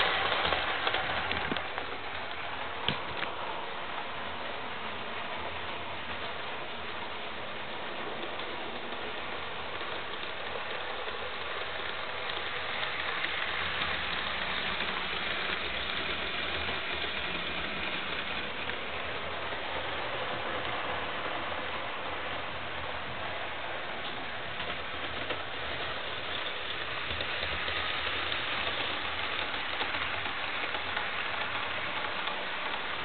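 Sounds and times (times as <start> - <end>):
model train motor whirring: 0.0 - 3.3, 6.1 - 20.9, 24.6 - 33.0
wheels clattering on rails: 0.0 - 4.1, 4.8 - 33.0.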